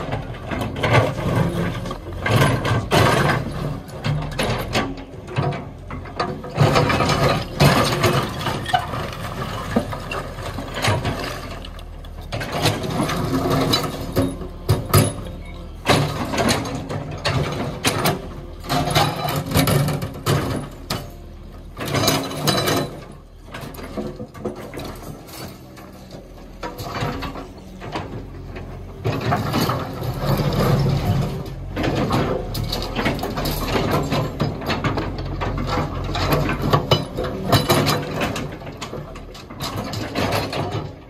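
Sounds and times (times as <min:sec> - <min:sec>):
excavator engine hum: 0:00.0 - 0:41.0.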